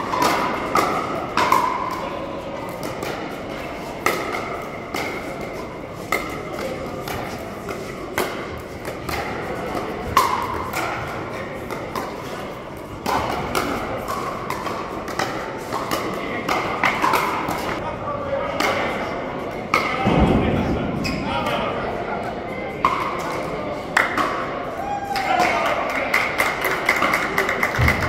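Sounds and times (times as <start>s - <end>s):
background voices in large hall: 0.0s - 28.0s.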